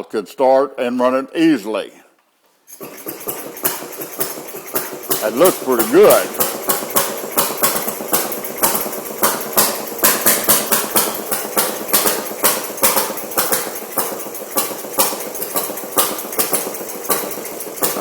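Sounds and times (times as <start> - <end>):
engine firing in sharp pops: 2.8 - 18.0.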